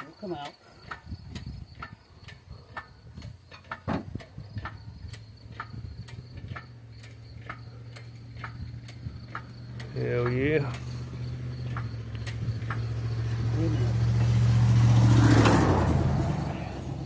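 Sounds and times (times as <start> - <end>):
engine hoist jack clicking: 0.0 - 14.4.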